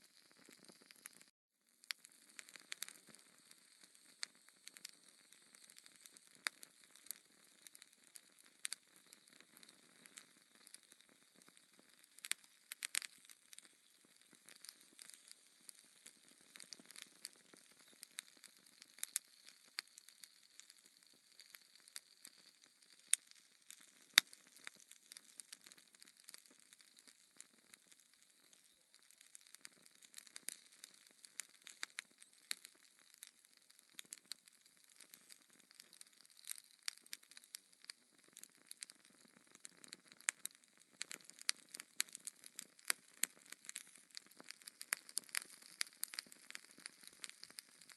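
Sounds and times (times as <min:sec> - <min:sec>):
burning logs crackling: 0:00.0 - 0:01.3, 0:01.9 - 0:47.9.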